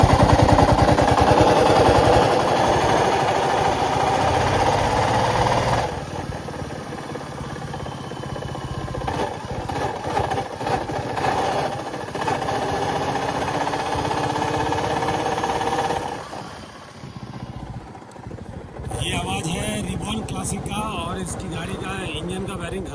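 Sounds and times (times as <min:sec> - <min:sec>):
motorcycle engine with abnormal noise: 0:00.0 - 0:22.9.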